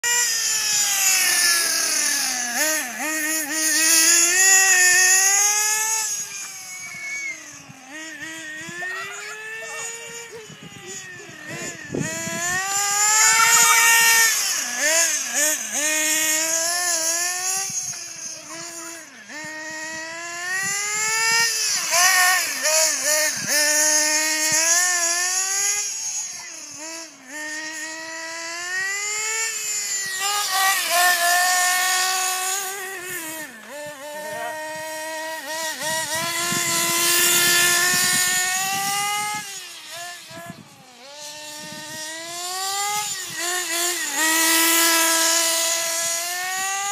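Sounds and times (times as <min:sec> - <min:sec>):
toy car nitro engine revving: 0:00.0 - 0:46.9.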